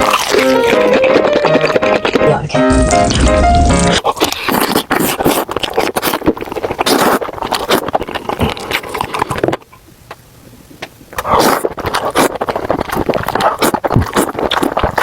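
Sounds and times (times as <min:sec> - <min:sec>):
mouth clicks and smacks: 0:00.0 - 0:02.4, 0:03.0 - 0:15.0
slurping and chewing food: 0:00.0 - 0:15.0.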